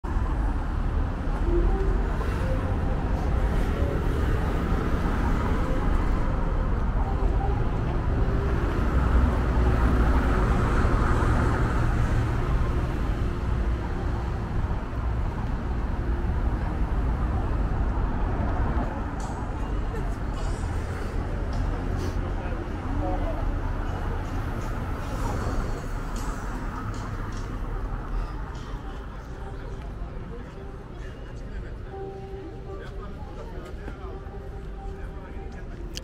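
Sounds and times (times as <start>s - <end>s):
traffic noise with low rumble: 0.0s - 36.0s
vehicles passing: 0.0s - 36.0s.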